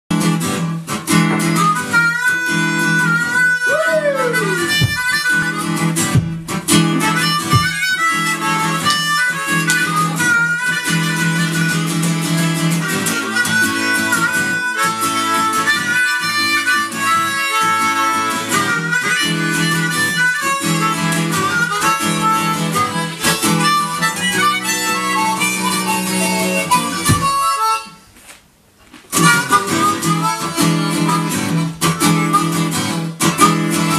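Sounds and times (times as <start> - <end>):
strummed acoustic guitar: 0.1 - 28.0, 29.0 - 33.9
blues harmonica: 0.1 - 28.2, 29.1 - 33.9.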